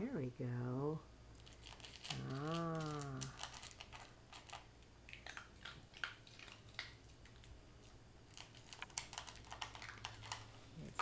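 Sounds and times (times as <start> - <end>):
puppy crunching dry food: 1.4 - 11.0.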